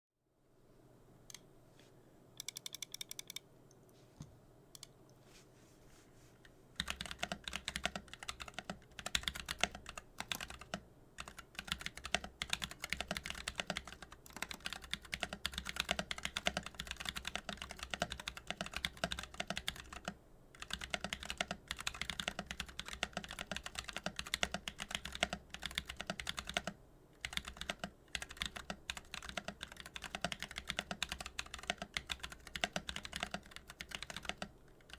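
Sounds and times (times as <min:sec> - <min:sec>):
mechanical keyboard typing: 0:02.4 - 0:03.4, 0:06.8 - 0:34.9.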